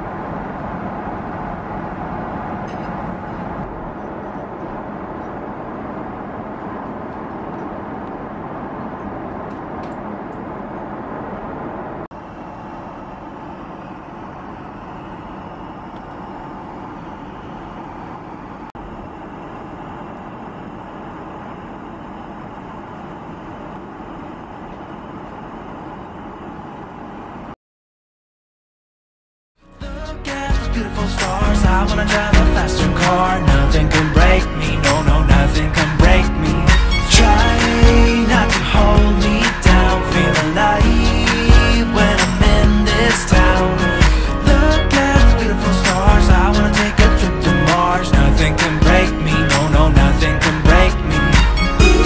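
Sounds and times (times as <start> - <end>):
airplane cabin engine noise: 0.0 - 27.6, 30.2 - 52.0.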